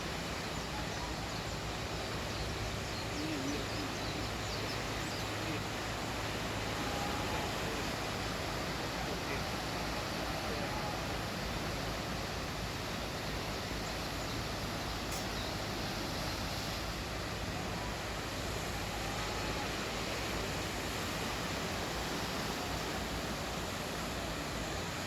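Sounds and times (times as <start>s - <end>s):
sea waves breaking on shore: 0.0s - 25.0s.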